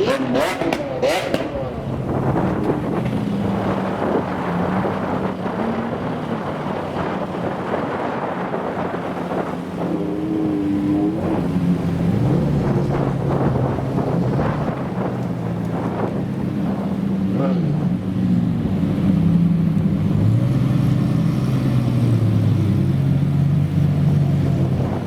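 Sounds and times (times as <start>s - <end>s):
car engines running: 0.0s - 25.0s
wind on microphone: 0.0s - 25.0s.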